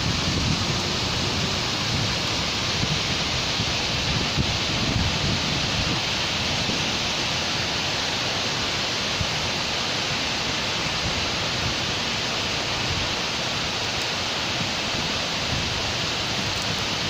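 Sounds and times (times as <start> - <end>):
low traffic rumble: 0.0 - 17.0
steady rain falling: 0.0 - 17.0.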